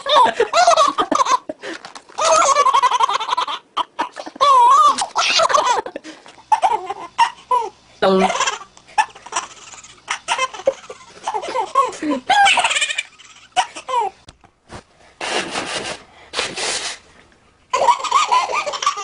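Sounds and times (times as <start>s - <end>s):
babies laughing: 0.0s - 14.2s, 17.7s - 19.0s.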